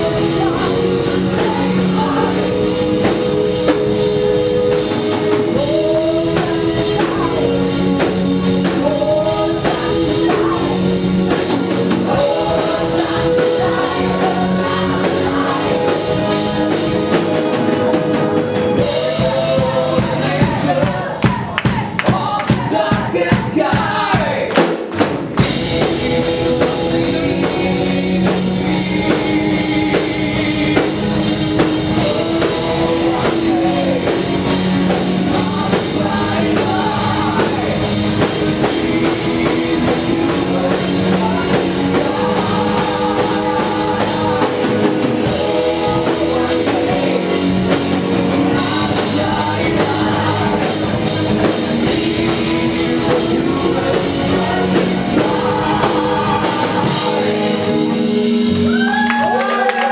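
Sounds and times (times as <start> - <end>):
man and woman singing: 0.0 - 24.8, 25.4 - 59.9
live rock band playing: 0.0 - 59.9.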